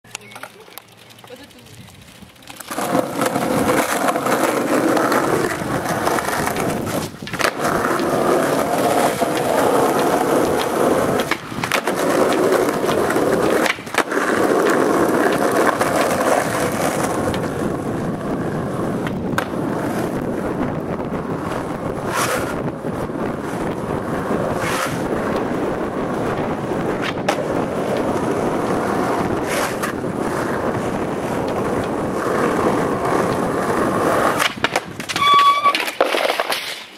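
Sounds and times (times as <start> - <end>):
skateboard wheels rolling on asphalt: 0.0 - 36.9
skateboard clicks: 0.1 - 36.9.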